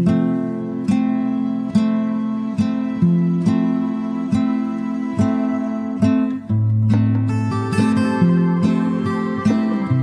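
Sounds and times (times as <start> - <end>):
plucked acoustic guitar tune: 0.0 - 10.0.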